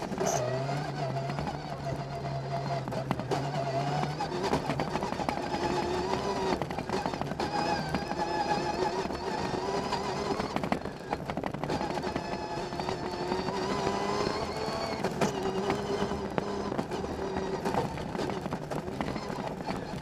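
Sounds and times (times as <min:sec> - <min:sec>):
rally car engine running hard: 0:00.0 - 0:20.0.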